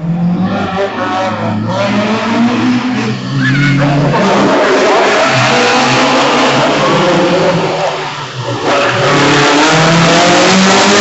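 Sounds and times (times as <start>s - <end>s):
rally car engines revving: 0.0s - 11.0s.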